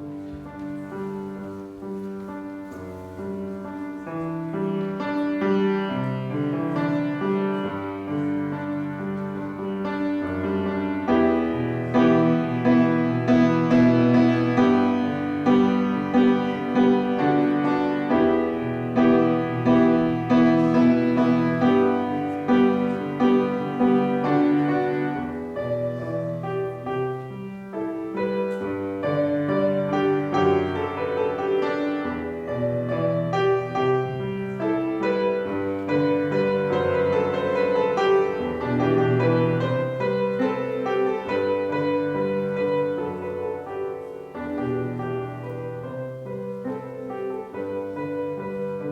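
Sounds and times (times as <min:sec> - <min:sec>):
solo piano playing: 0:00.0 - 0:48.9.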